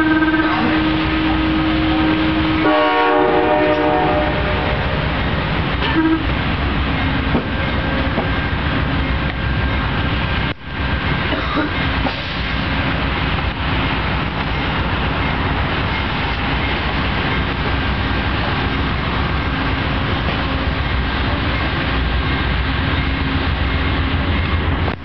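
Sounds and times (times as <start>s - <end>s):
passenger train passing: 0.0s - 25.0s.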